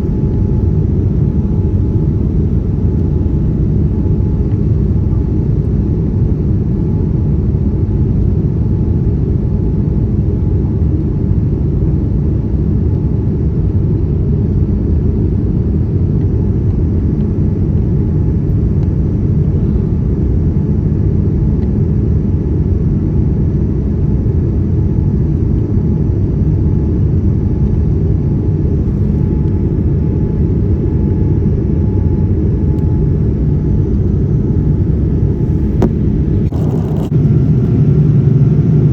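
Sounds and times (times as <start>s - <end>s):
faint steady hum: 0.0s - 38.9s
jet engine cabin rumble: 0.0s - 38.9s.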